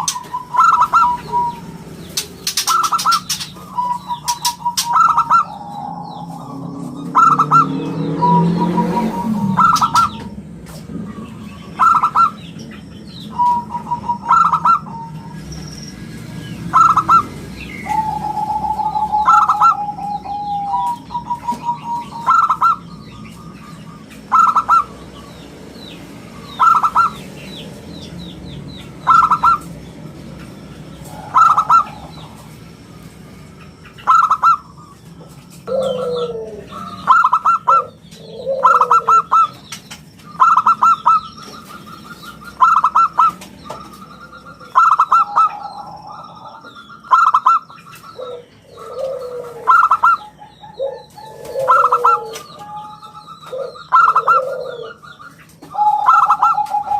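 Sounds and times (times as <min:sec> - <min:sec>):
dove cooing: 0:00.0 - 0:56.9
small birds chirping: 0:00.0 - 0:56.9.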